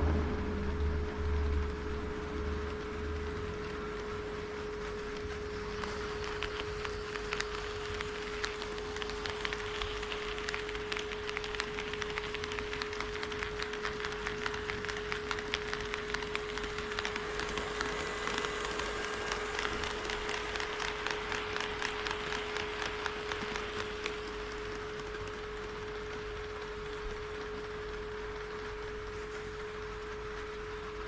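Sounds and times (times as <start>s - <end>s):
steady high hum: 0.0s - 31.0s
model train wheels clicking: 2.2s - 31.0s.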